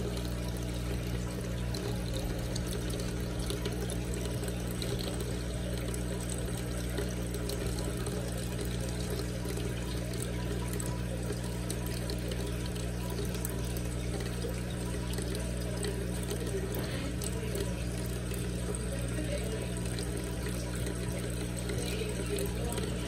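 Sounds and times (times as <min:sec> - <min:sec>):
low motor hum: 0:00.0 - 0:23.0
water flowing in aquarium filter: 0:00.0 - 0:23.0.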